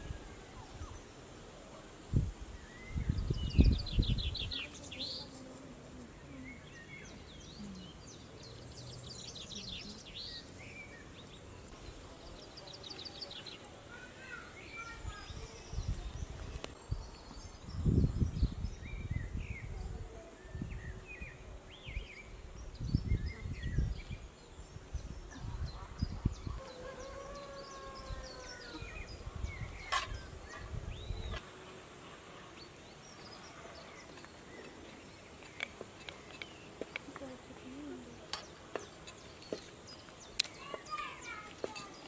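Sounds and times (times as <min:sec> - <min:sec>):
birds chirping: 0:02.5 - 0:42.0.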